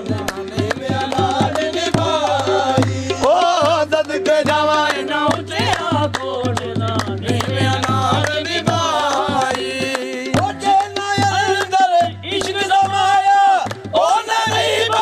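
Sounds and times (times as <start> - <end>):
tabla drumming: 0.0 - 15.0
voices singing: 0.0 - 15.0.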